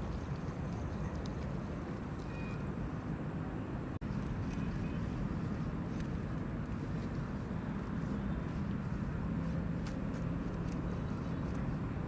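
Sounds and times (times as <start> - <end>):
faint engine hum: 0.0 - 12.0
highway traffic rumble: 0.0 - 12.0.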